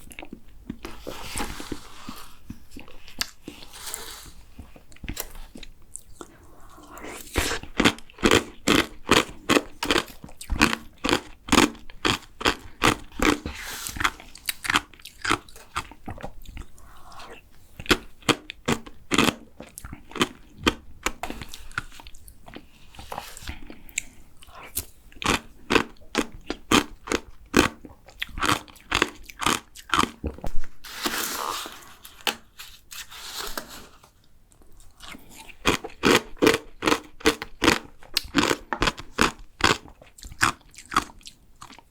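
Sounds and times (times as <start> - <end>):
crunchy chewing: 0.0 - 41.9.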